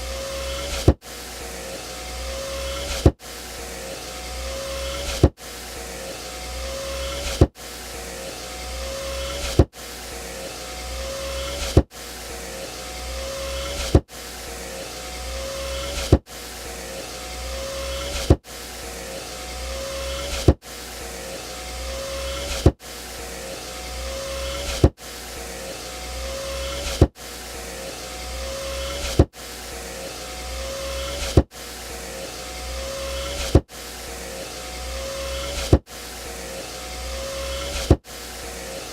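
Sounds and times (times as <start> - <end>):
power window motor running: 0.0 - 38.9.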